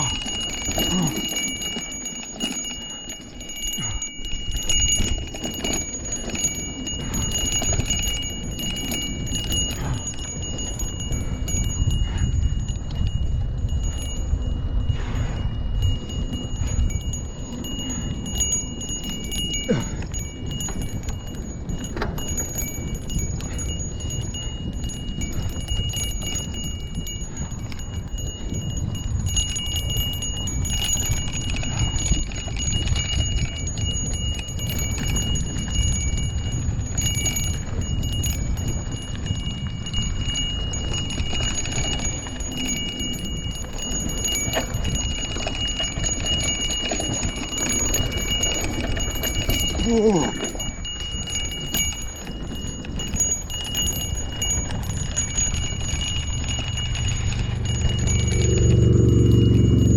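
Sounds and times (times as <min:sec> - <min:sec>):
bicycle bell ringing: 0:00.0 - 0:59.9
wind rumble on microphone: 0:00.0 - 0:59.9.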